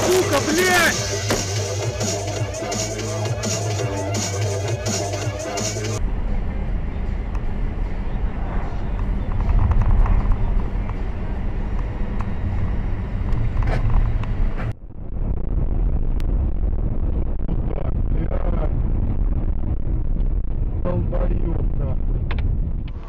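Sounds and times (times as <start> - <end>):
road and engine rumble: 0.0 - 23.0.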